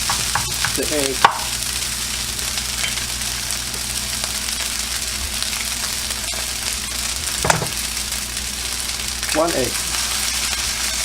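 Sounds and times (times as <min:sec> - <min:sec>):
rice sizzling in a hot pan: 0:00.0 - 0:11.0.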